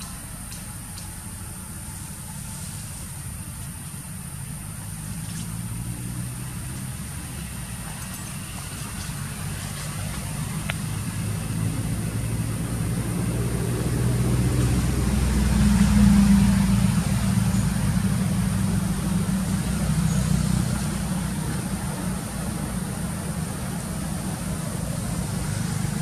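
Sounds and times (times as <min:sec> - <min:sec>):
vehicle engine passing by: 0:00.0 - 0:26.0.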